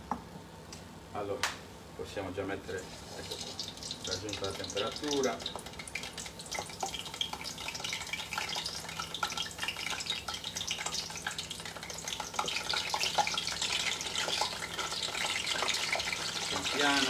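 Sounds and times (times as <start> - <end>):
slices frying in hot oil: 2.6 - 17.0.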